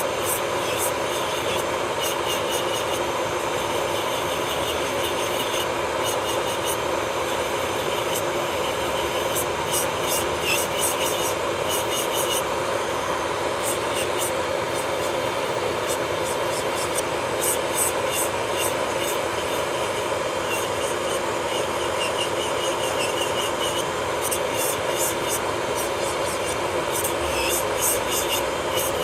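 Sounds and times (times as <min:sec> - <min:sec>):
drill bit scratching nail: 0:00.0 - 0:29.0
electric nail drill running: 0:00.0 - 0:29.0.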